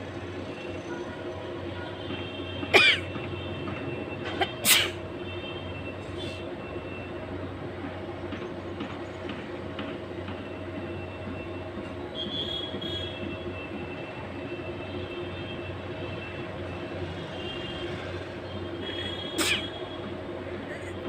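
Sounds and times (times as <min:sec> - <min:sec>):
mechanical hum and rumble: 0:00.0 - 0:21.0.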